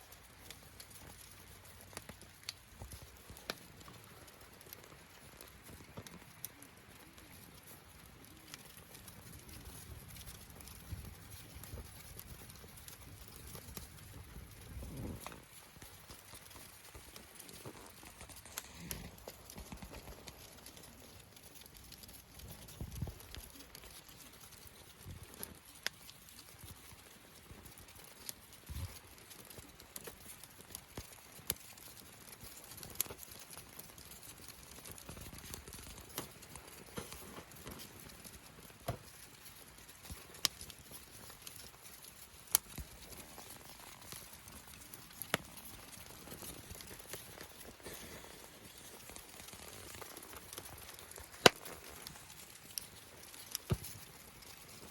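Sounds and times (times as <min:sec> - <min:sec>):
bonfire crackling: 0:00.0 - 0:54.9
burning wood popping: 0:00.0 - 0:54.9.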